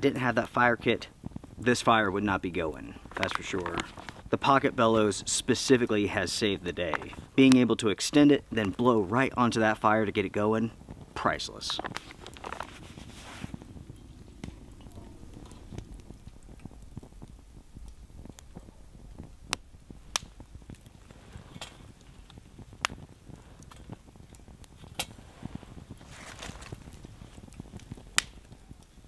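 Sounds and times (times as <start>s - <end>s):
wood fire rumbling: 0.0s - 29.0s
wood popping and crackling: 0.0s - 29.0s.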